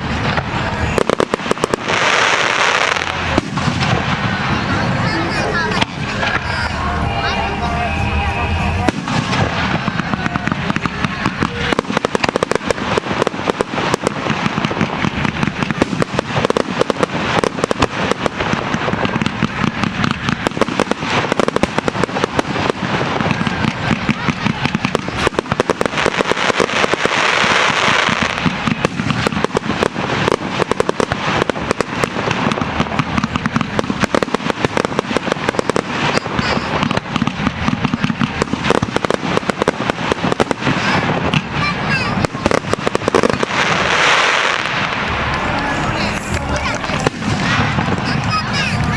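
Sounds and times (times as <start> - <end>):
fireworks bursting and crackling: 0.0 - 48.9
hissing rush: 0.0 - 48.9.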